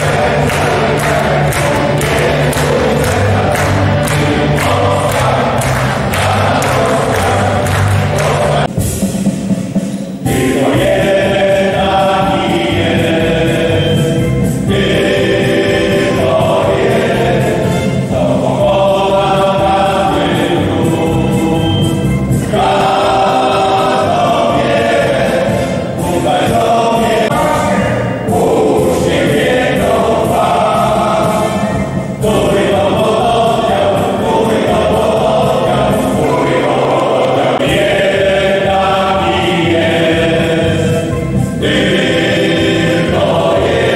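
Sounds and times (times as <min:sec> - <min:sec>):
male choir singing: 0:00.0 - 0:08.7, 0:10.3 - 0:43.9.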